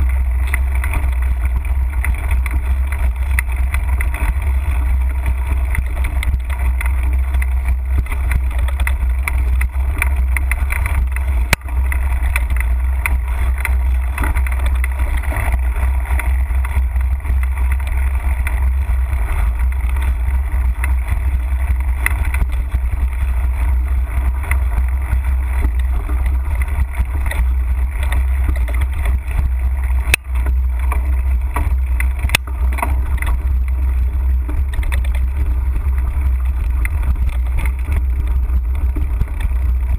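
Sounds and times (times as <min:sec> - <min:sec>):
wind and vibration rumble: 0:00.0 - 0:39.9.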